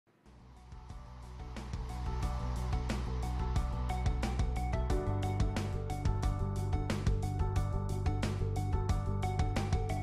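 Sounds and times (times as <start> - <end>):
music with low bass and beats: 0.3 - 10.0.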